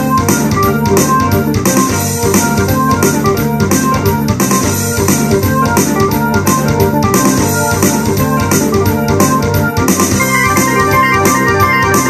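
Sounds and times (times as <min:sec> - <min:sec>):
bass line: 0:00.0 - 0:12.0
steady beat: 0:00.0 - 0:12.0
synthesizer keyboard chords and melody: 0:00.0 - 0:12.0.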